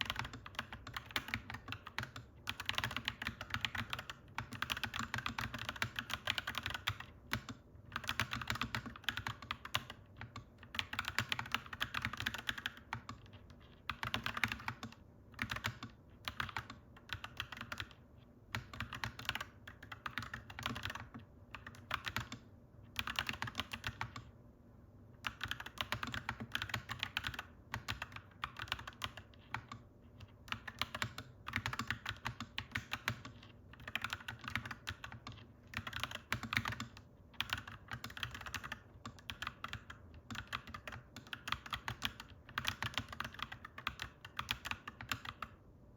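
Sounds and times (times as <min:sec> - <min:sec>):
mechanical keyboard typing: 0:00.0 - 0:24.4, 0:25.2 - 0:45.6.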